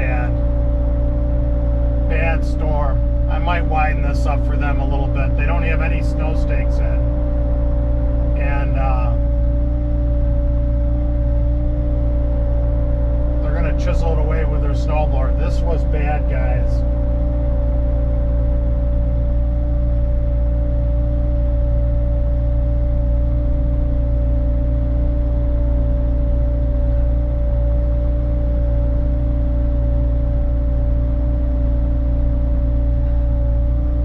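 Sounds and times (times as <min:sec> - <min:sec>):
low engine drone: 0:00.0 - 0:34.0
steady whine: 0:00.0 - 0:34.0.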